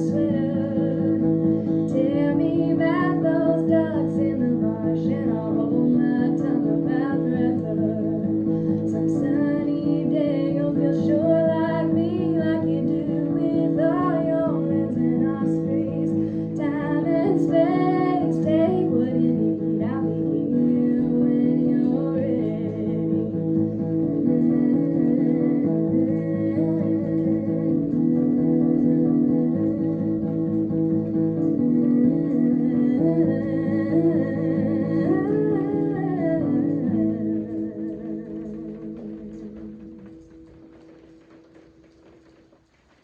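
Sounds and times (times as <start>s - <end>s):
woman singing: 0.0s - 40.3s.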